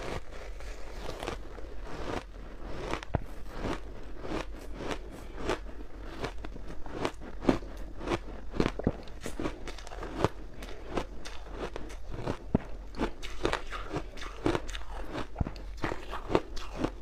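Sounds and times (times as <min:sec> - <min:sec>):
ice being bitten and chewed: 0:00.0 - 0:17.0.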